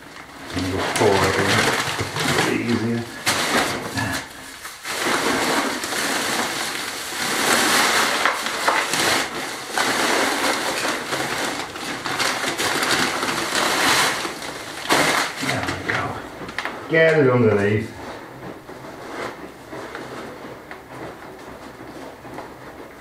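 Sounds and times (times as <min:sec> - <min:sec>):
sand and gravel pouring: 0:00.0 - 0:20.9.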